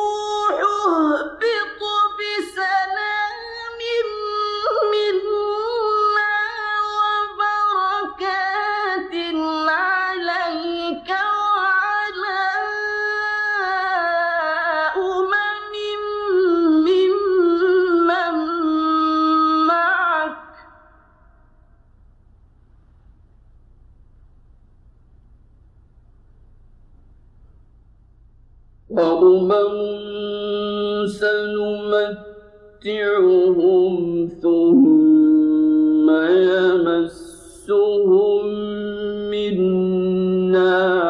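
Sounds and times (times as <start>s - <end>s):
man reciting melodically: 0.0s - 21.0s, 28.9s - 41.0s.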